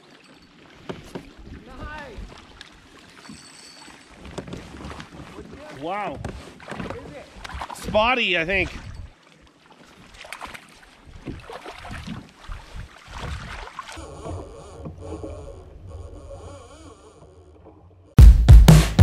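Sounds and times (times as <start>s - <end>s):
water sounds: 0.0s - 18.2s.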